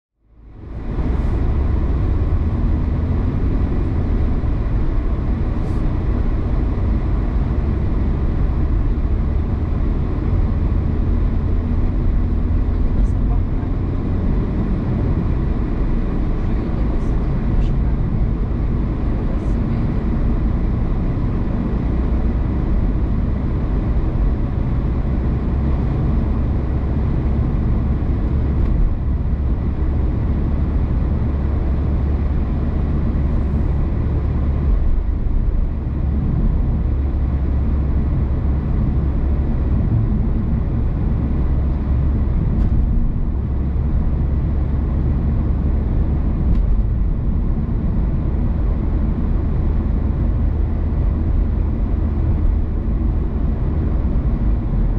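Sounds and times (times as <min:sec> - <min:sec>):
car driving on road: 0:00.2 - 0:54.9.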